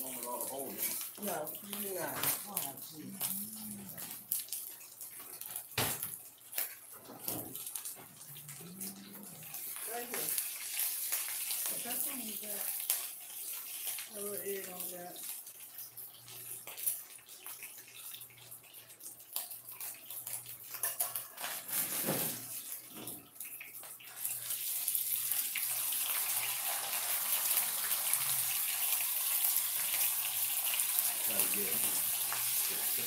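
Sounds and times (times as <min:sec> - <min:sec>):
patties sizzling in oil: 0:00.0 - 0:33.0.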